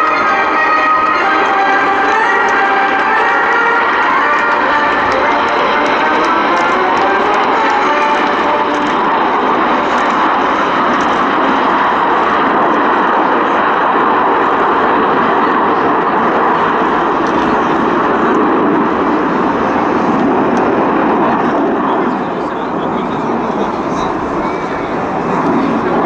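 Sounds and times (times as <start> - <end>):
jet planes flying past: 0.0 - 26.0.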